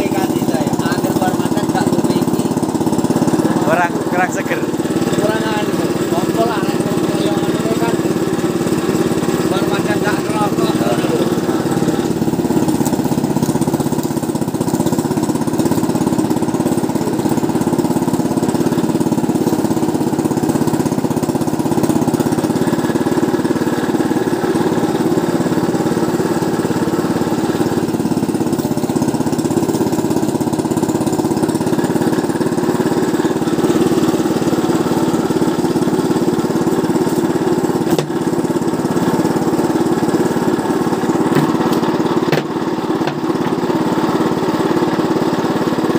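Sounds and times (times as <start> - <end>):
small petrol engine running: 0.0 - 45.9.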